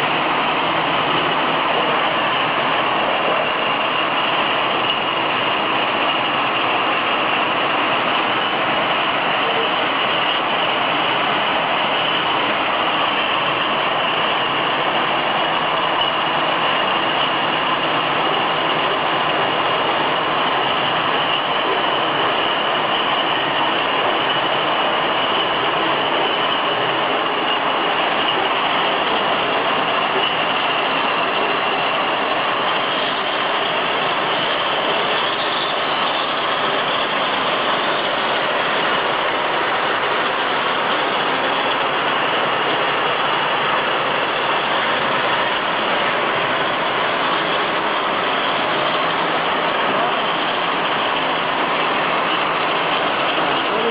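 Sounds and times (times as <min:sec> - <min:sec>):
bottle washing machine din: 0:00.0 - 0:53.9
thin high whine: 0:00.0 - 0:53.9.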